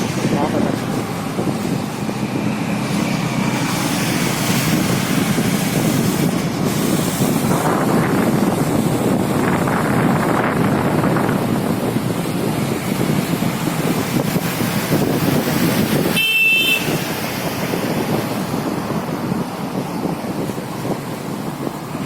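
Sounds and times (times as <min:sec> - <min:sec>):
motorcycle engine and road noise: 0:00.0 - 0:22.0
wind on microphone: 0:00.0 - 0:22.0.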